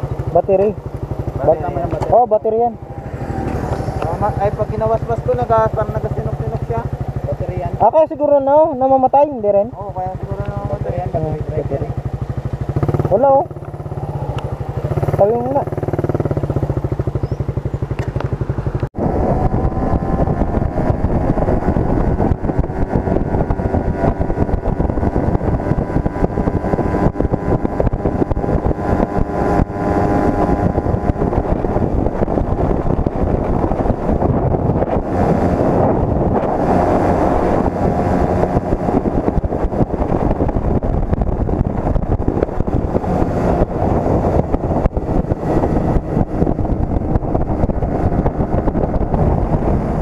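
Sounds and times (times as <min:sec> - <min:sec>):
motorcycle engine idling: 0:00.0 - 0:50.0
motorcycles riding at speed: 0:00.0 - 0:50.0
wind on microphone: 0:00.0 - 0:50.0.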